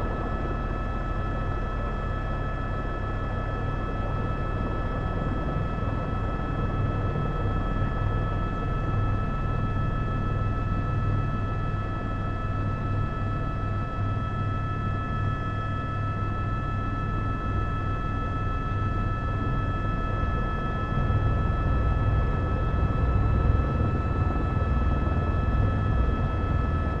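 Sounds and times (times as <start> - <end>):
helicopter engine and rotor: 0.0 - 27.0.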